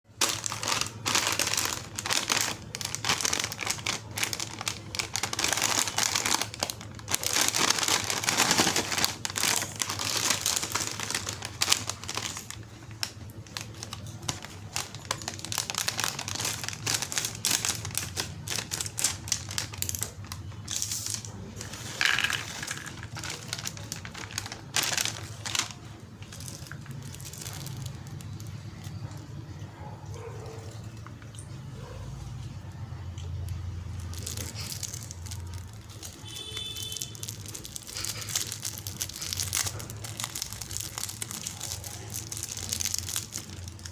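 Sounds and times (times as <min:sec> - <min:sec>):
plastic packaging crinkling: 0:00.1 - 0:29.6, 0:33.3 - 0:43.9.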